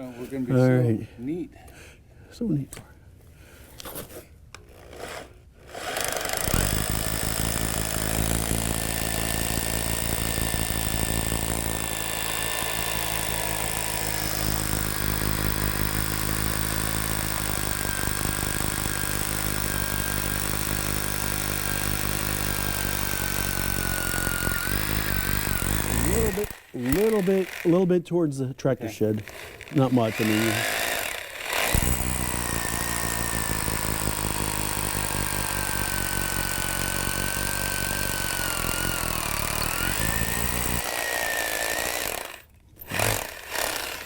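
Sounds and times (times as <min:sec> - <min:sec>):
hammer drill boring into concrete: 0:04.6 - 0:28.1, 0:29.0 - 0:44.0.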